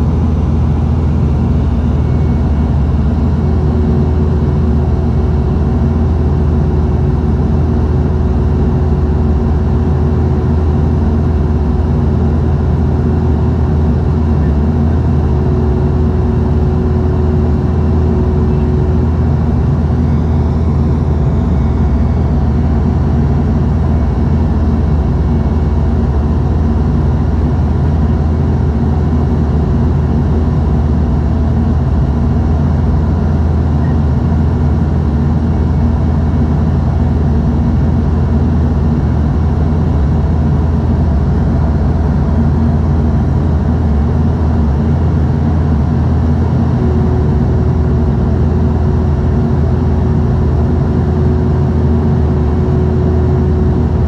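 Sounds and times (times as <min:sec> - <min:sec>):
turboprop engine drone: 0:00.0 - 0:54.0.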